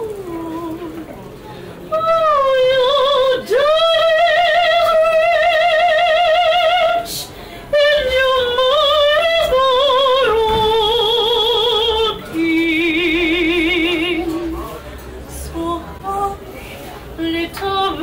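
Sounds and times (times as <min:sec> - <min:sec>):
woman singing with vibrato: 0:00.0 - 0:01.2, 0:01.9 - 0:18.0.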